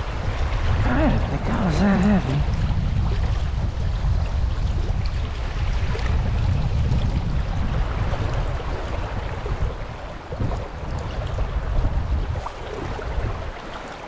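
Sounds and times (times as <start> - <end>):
river current rushing: 0.0 - 3.7, 5.3 - 14.0.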